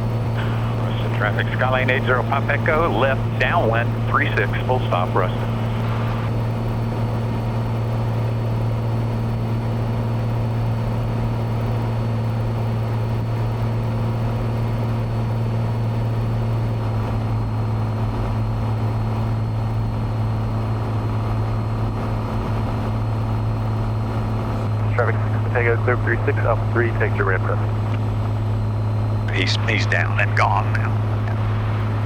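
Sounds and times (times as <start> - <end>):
propeller plane engine droning: 0.0 - 32.0.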